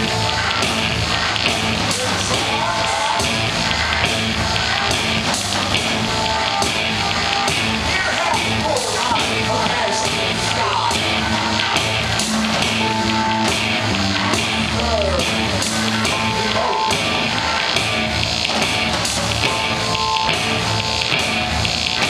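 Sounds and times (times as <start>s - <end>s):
live band playing loud music: 0.0s - 22.0s
steady drum beat: 0.0s - 22.0s.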